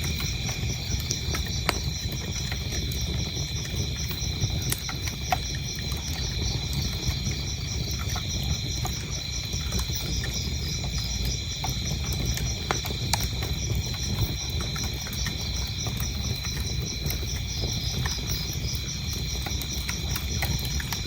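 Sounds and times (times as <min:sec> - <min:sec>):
crickets chirping: 0:00.0 - 0:21.0
wood fire crackling and popping: 0:00.0 - 0:21.0.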